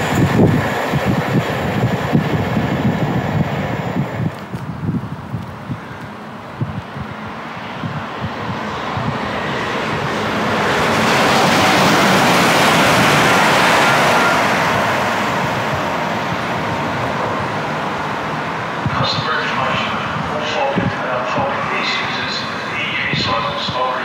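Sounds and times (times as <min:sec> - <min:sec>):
passenger train passing at speed: 0:00.0 - 0:24.0
wheels rushing on rail: 0:00.0 - 0:24.0.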